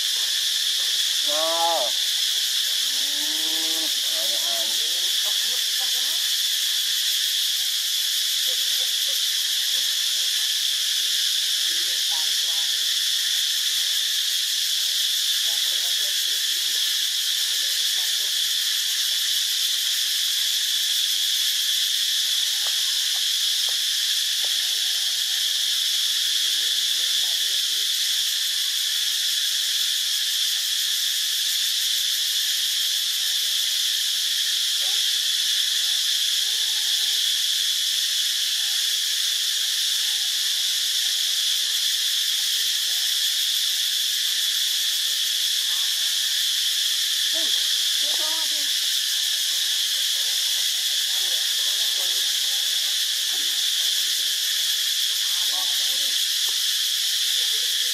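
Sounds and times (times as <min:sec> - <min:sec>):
insect chorus drone: 0:00.0 - 0:57.9.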